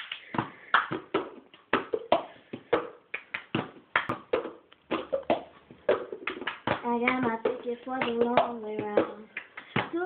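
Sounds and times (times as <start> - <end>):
hand claps: 0.0 - 10.0.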